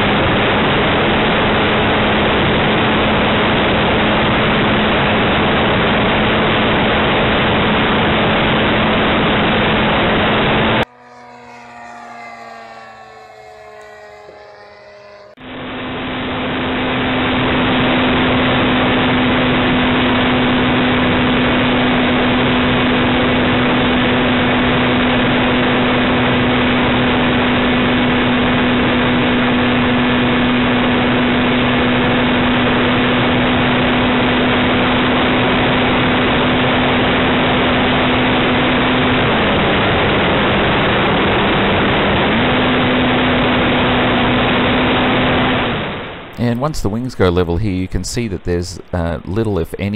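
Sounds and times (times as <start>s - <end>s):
model aircraft motor drone: 0.0s - 46.4s.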